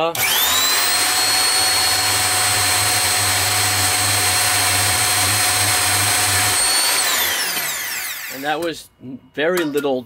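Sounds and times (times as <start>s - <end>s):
band saw cutting metal: 0.0s - 8.7s.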